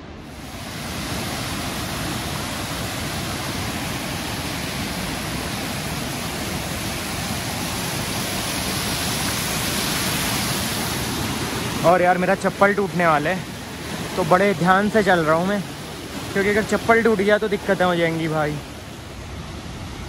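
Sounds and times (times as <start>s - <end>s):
stream rushing over boulders: 0.0s - 20.0s.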